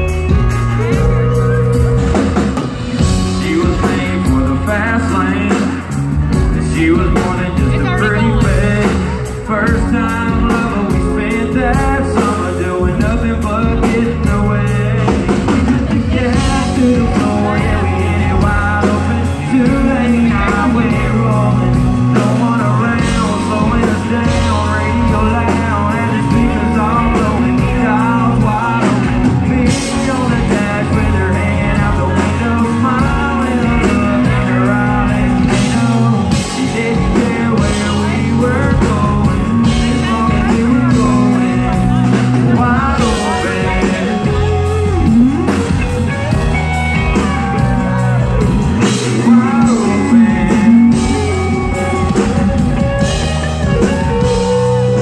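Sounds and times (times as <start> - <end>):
live country-rock band: 0.0 - 55.0
man singing into microphone: 3.0 - 46.4, 47.0 - 55.0.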